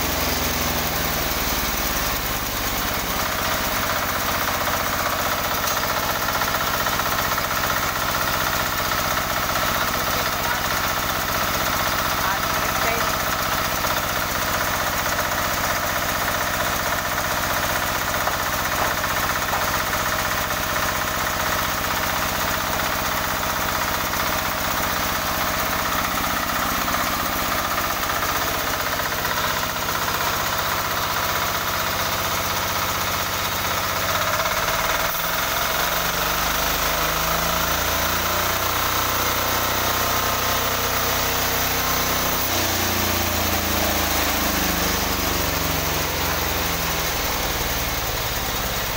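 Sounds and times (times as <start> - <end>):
diesel engine knocking drone: 0.0 - 48.9.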